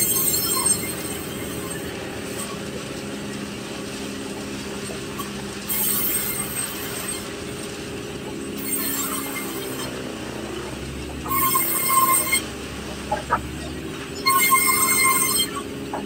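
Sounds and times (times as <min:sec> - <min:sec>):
sawmill motor hum: 0:00.0 - 0:16.0.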